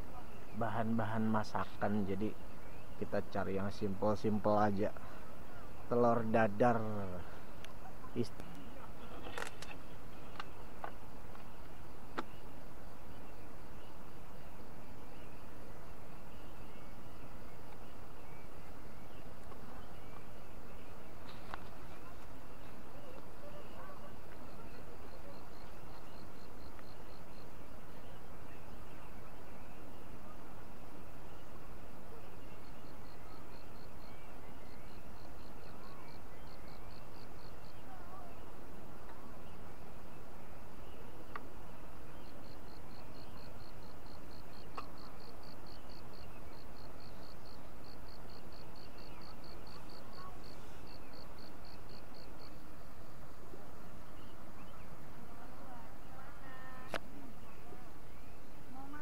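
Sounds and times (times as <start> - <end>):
background hiss: 0.0 - 59.0
small birds chirping: 0.0 - 59.0.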